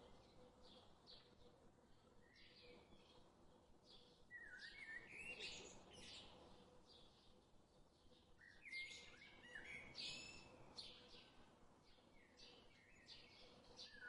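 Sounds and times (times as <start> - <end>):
faint birdsong chirps and whistles: 0.0 - 14.0.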